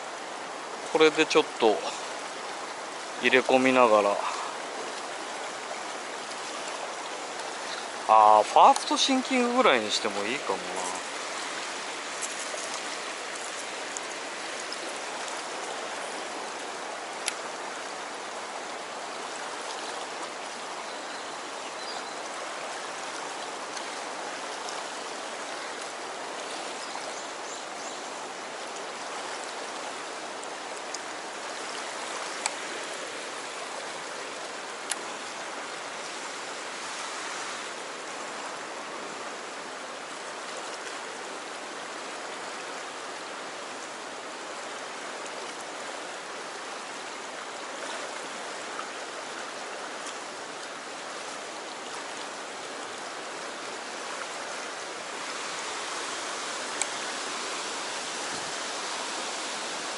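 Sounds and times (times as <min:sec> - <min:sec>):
river current rushing: 0:00.0 - 0:59.9.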